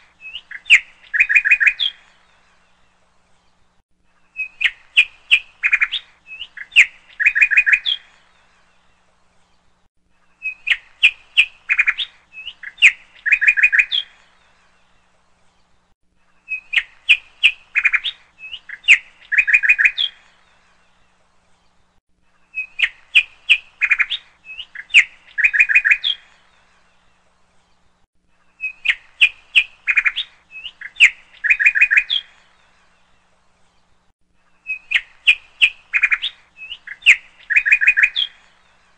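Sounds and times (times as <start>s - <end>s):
bird chirping and trilling: 0.2s - 2.3s, 4.2s - 8.8s, 10.3s - 14.8s, 16.4s - 21.7s, 22.4s - 27.8s, 28.4s - 33.9s, 34.6s - 38.9s.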